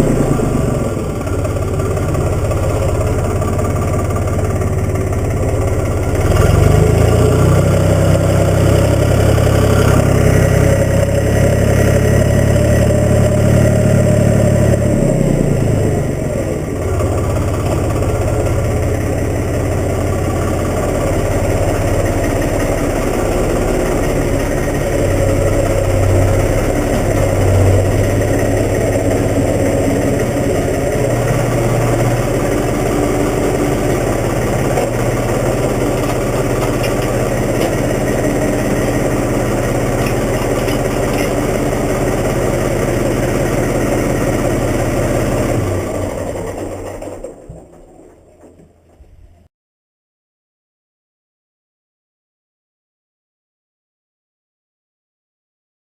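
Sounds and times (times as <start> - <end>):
diesel tractor engine running: 0.0 - 49.5.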